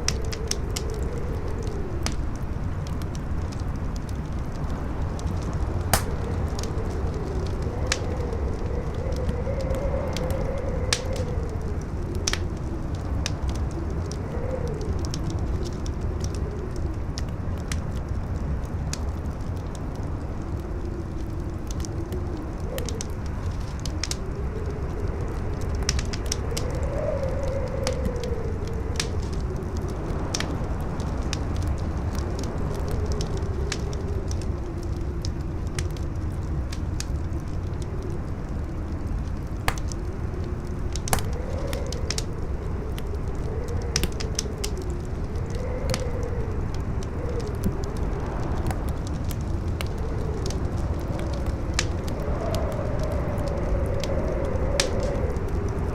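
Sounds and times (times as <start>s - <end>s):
wind howling: 0.0s - 55.9s
wood fire crackling: 0.0s - 55.9s.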